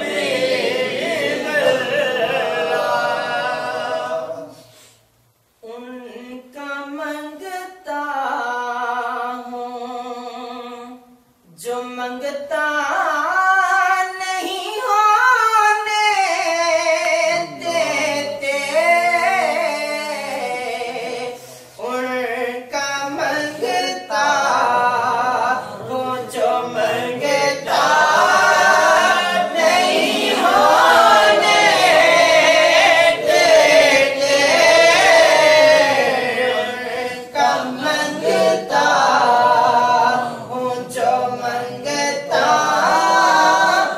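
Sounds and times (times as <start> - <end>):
man singing unaccompanied: 5.6 - 29.8, 30.4 - 43.9.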